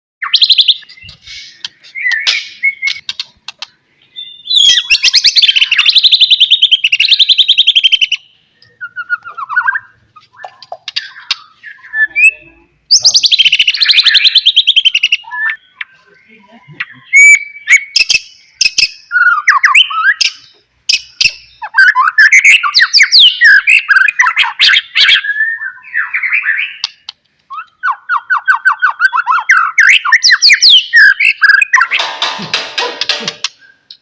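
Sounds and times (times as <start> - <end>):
bird singing varied whistles: 0.2 - 3.1, 4.0 - 26.9, 27.5 - 32.0.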